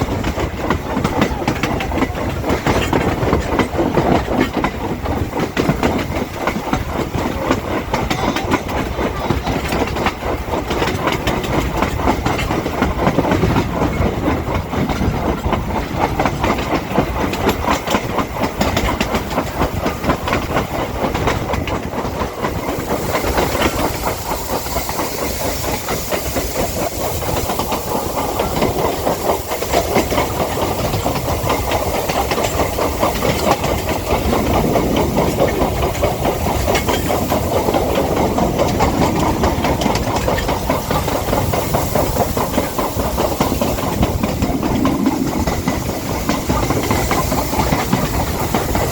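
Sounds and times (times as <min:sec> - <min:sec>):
steam hissing: 0:00.0 - 0:48.9
train wheels clattering: 0:00.0 - 0:48.9.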